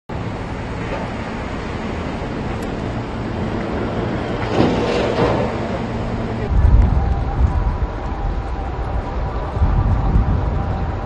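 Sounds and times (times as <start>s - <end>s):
strong wind gusting: 0.1s - 11.0s.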